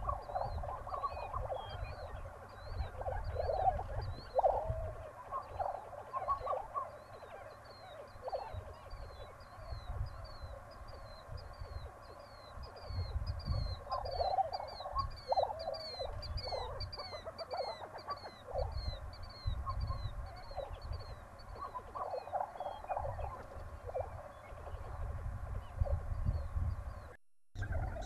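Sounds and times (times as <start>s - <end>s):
prairie chickens cackling and gobbling: 0.0s - 28.0s.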